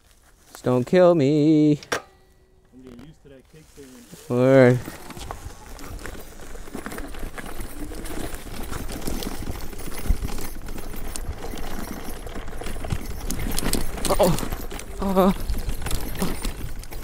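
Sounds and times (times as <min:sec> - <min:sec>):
dirt bike rattling and clicking: 0:00.7 - 0:17.0
tyres rumbling on dirt: 0:02.8 - 0:17.0.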